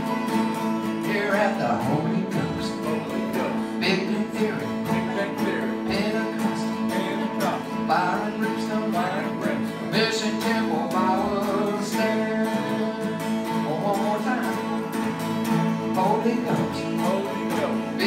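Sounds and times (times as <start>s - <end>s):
guitars strumming country chords: 0.0s - 18.0s.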